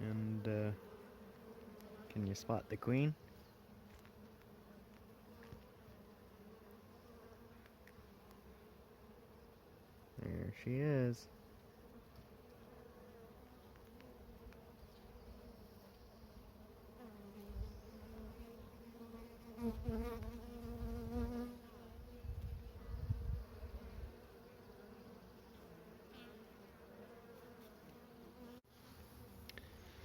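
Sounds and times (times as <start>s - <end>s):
bees buzzing: 0.3s - 30.0s.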